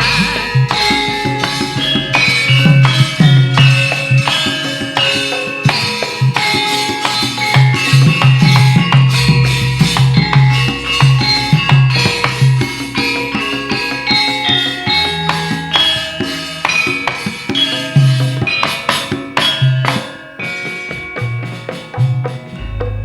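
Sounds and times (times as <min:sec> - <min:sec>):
gamelan band music: 0:00.0 - 0:23.0
hand drums beating: 0:00.0 - 0:23.0.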